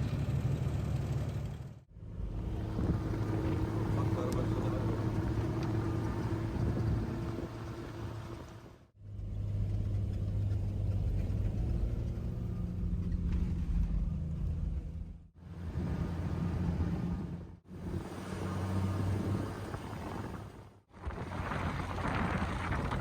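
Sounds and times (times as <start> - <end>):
car engine and road hum: 0.0 - 23.0.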